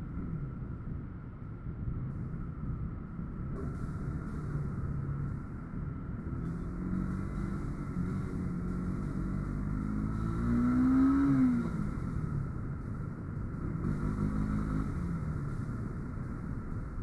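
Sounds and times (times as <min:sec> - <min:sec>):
motorcycle engine running: 0:01.8 - 0:17.0.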